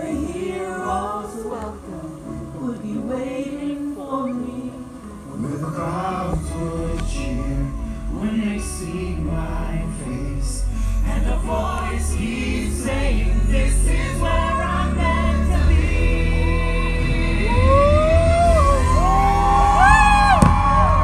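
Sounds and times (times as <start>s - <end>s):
music with choir over loudspeakers: 0.0s - 21.0s.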